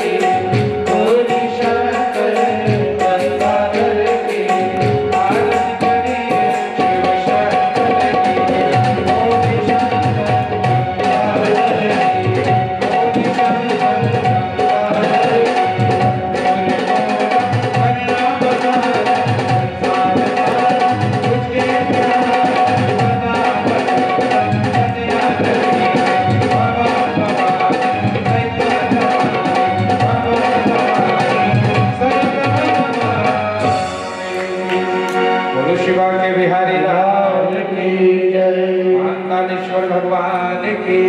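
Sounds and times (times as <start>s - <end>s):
tabla playing: 0.0s - 41.0s.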